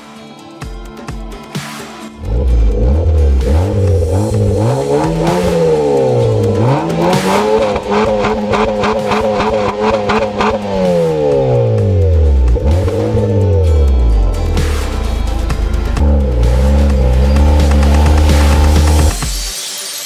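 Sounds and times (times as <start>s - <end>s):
car engine revving: 2.2s - 19.4s.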